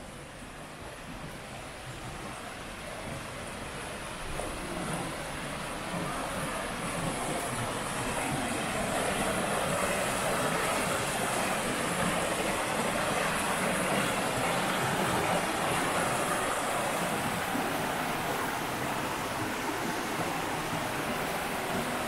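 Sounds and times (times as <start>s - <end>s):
river and waterfall rushing: 0.0s - 22.0s.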